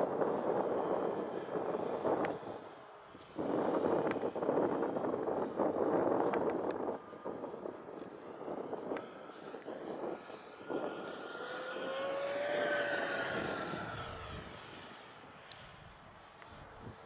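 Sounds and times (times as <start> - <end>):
model jet fan whine: 0.0 - 17.0.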